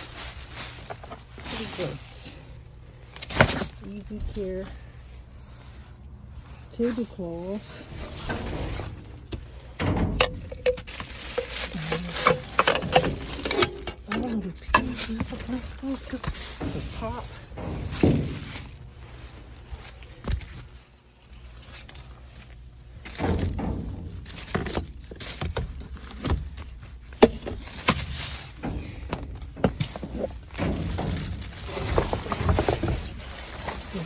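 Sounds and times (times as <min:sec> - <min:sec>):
plastic bags and boxes rustling: 0:00.0 - 0:34.0.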